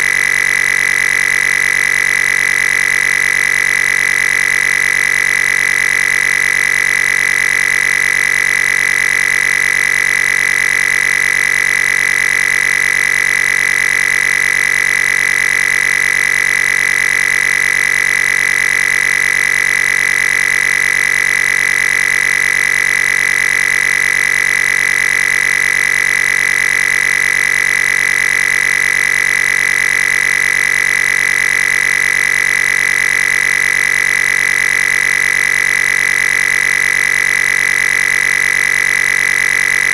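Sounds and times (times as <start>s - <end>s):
high-pitched electronic whine: 0.0s - 39.9s.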